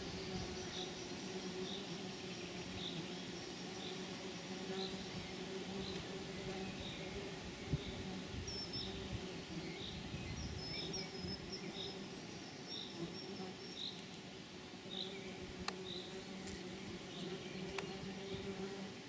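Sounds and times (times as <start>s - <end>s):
low insect-like hum: 0.0s - 19.0s.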